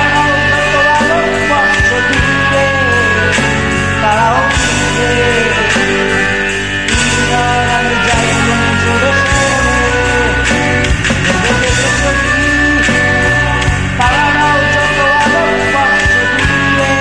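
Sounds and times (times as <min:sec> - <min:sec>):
karaoke backing track: 0:00.0 - 0:17.0
man singing: 0:00.0 - 0:17.0.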